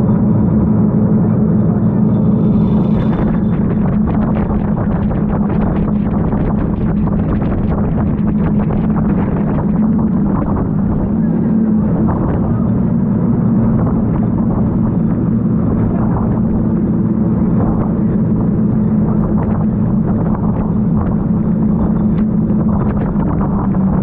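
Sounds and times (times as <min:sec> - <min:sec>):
boat engine low drone: 0:00.0 - 0:24.0
rush of wind and water: 0:00.0 - 0:24.0.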